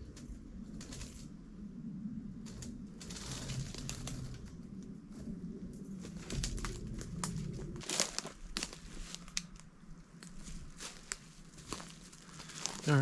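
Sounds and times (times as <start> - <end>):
leaves and stems rustling: 0.0 - 1.4, 2.4 - 13.0.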